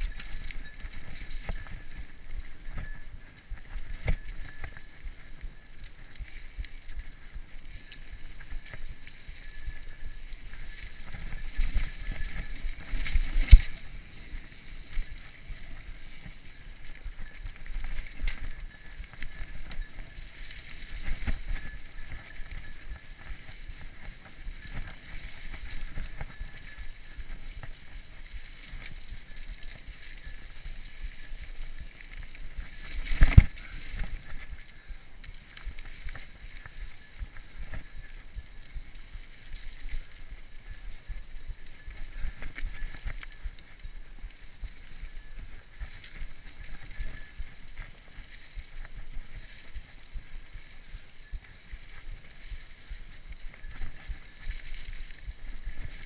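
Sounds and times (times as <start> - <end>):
bike rattling over bumps: 0.0 - 56.0
bike tyres on dirt trail: 0.0 - 56.0.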